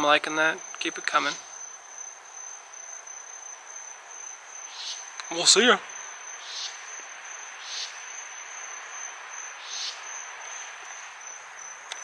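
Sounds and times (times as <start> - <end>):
crickets trilling: 0.0 - 12.0
low rasping insect call: 0.0 - 12.0.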